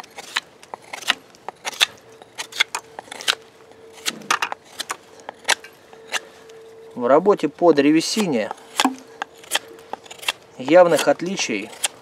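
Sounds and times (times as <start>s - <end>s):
knife shaving wooden stick: 0.0s - 12.0s.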